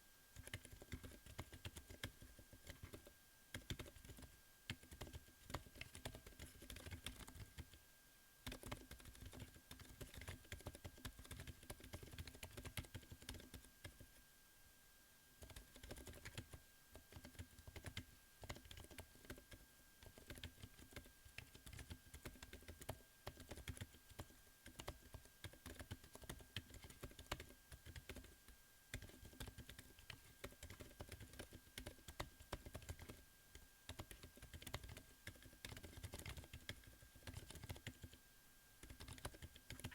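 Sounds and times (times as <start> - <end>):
faint steady hum: 0.0 - 39.9
faint keyboard typing: 0.3 - 7.8, 8.4 - 14.2, 15.4 - 38.2, 38.8 - 39.9.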